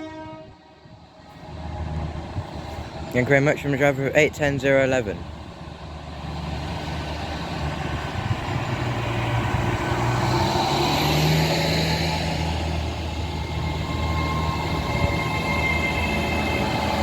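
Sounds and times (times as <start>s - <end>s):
train diesel engines under load: 0.0s - 17.0s.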